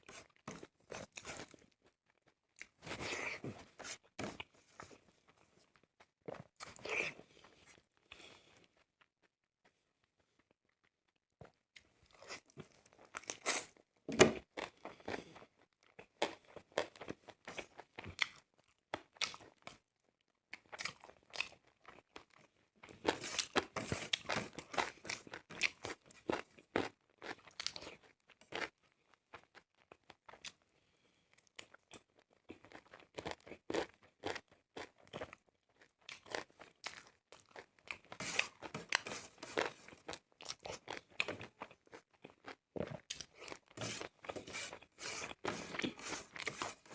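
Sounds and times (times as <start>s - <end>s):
person chewing crunchy food: 0.0s - 9.8s, 11.4s - 46.9s.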